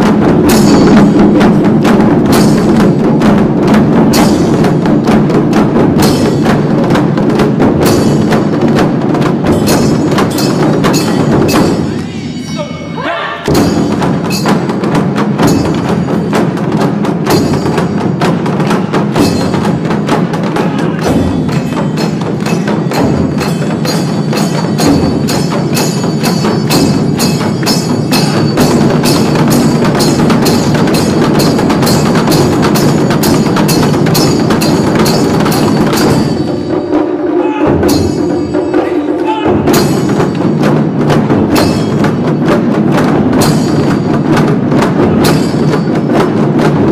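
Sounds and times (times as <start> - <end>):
taiko drums beating: 0.0 - 46.9.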